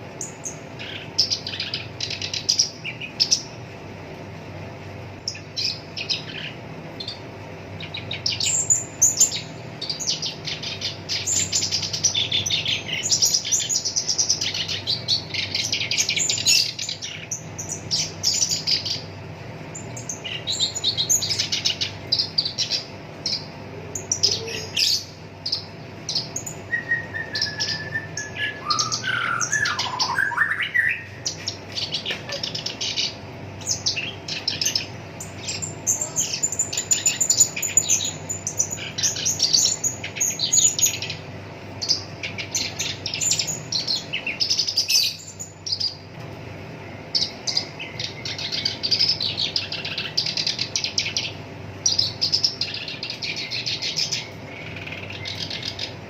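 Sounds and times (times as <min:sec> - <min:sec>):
warbler chattering song: 0:00.0 - 0:56.0.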